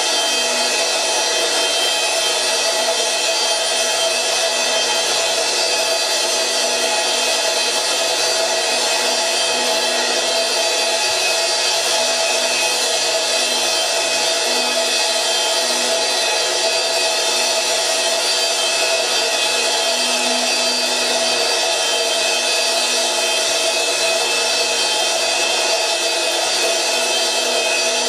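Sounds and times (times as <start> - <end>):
cymbal ringing wash: 0.0 - 28.0.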